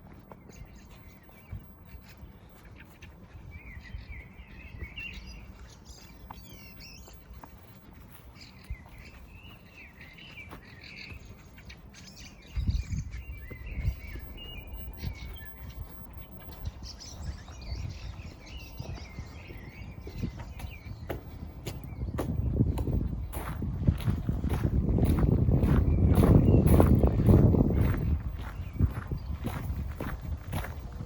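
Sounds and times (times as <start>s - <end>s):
songbirds singing and chirping: 0.0s - 31.0s.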